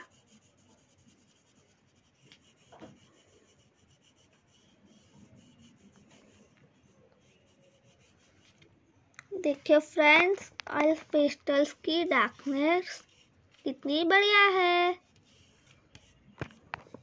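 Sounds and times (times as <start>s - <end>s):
oil pastel scratching on paper: 0.0s - 8.7s, 9.4s - 17.0s.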